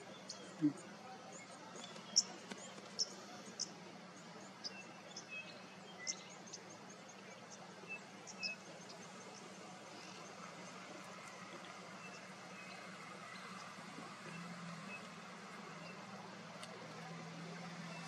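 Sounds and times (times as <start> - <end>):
low hum and hiss: 0.0 - 18.0
small birds chirping: 0.0 - 18.0.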